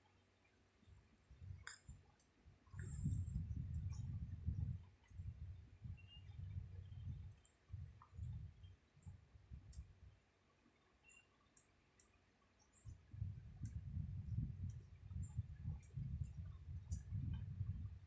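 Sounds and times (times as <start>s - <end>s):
faint high clicks and chirps: 0.0s - 18.0s.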